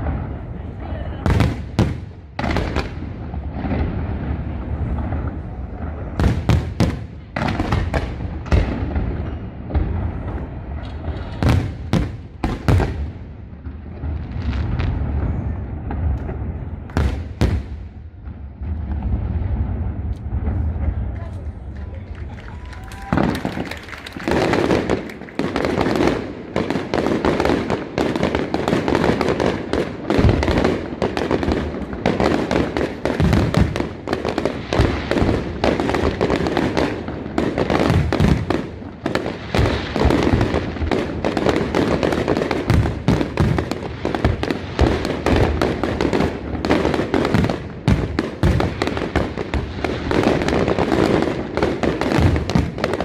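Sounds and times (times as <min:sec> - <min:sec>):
fireworks bangs and crackling: 0:00.0 - 0:53.0
heavy fireworks booms: 0:00.0 - 0:53.0.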